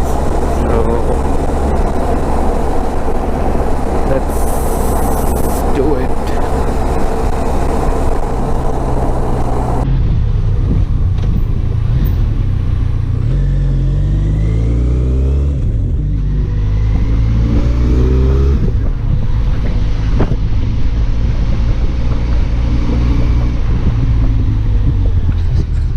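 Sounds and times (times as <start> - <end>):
wind noise: 0.0 - 14.5, 15.4 - 25.9
motorcycle engine revving: 0.0 - 25.9.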